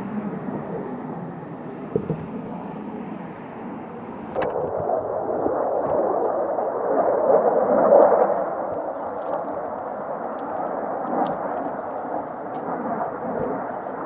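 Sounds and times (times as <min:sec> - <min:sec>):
jet aircraft flying overhead: 0:00.0 - 0:14.0.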